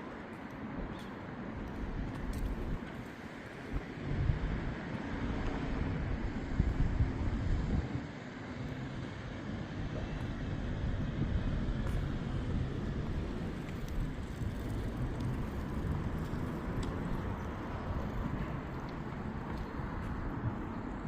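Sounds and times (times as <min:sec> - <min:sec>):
outdoor ambience: 0:00.0 - 0:21.0
vehicle engine rumble: 0:01.5 - 0:21.0.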